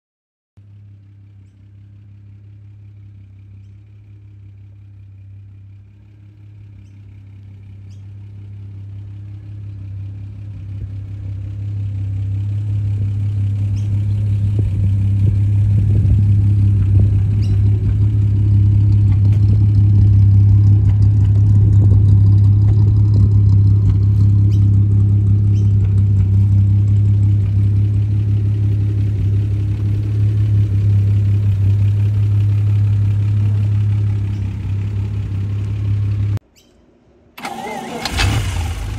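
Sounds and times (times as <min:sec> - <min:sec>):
car engine idling: 0:00.6 - 0:36.4, 0:37.4 - 0:38.9.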